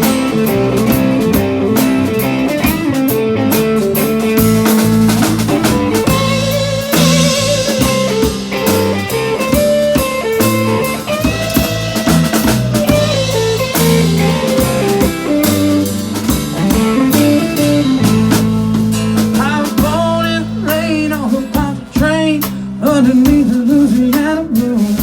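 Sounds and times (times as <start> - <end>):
blues-rock band playing: 0.0 - 25.0
wavering lead guitar line: 0.0 - 25.0.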